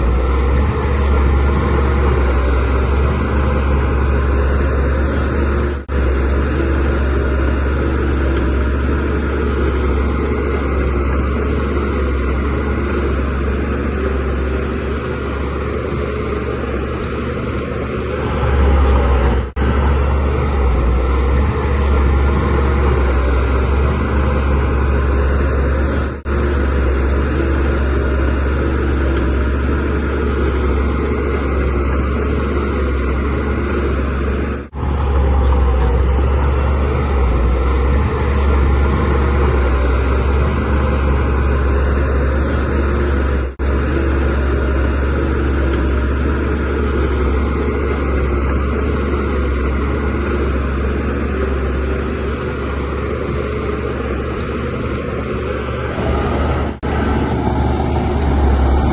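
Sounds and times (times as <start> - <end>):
bulldozer diesel engine droning: 0.0 - 58.9.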